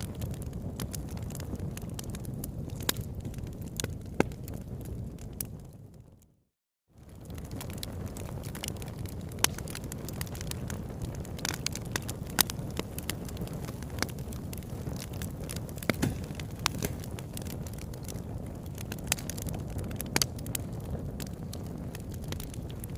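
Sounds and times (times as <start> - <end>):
crackling fire: 0.0 - 22.9.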